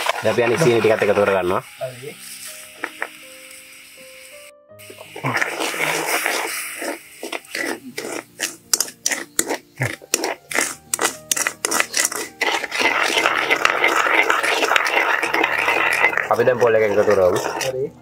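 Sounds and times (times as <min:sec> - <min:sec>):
spatula scraping metal wok: 0:00.0 - 0:18.0.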